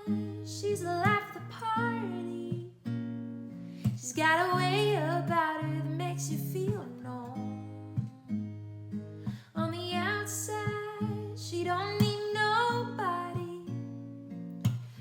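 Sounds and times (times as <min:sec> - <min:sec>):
woman singing: 0:00.0 - 0:02.9, 0:03.8 - 0:08.5, 0:09.3 - 0:14.0
acoustic guitar slow song: 0:00.0 - 0:15.0.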